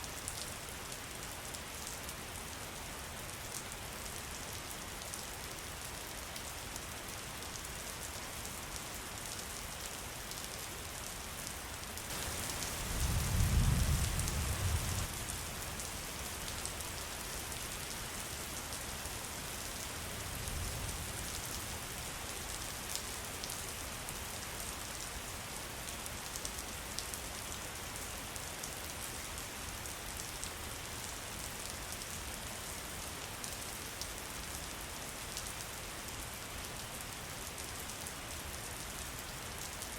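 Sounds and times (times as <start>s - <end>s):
rain pattering: 3.2s - 39.9s.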